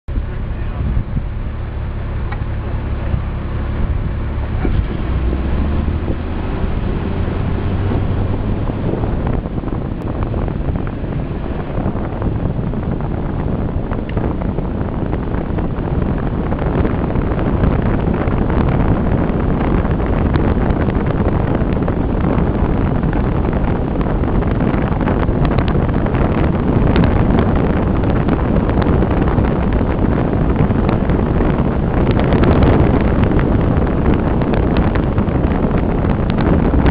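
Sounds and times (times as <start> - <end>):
car engine hum: 0.1 - 36.9
road noise: 0.1 - 36.9
wind buffeting microphone: 0.1 - 36.9.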